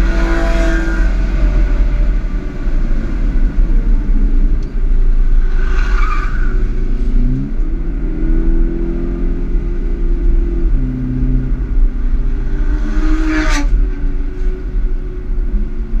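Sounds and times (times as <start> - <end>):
road rumble: 0.0 - 16.0.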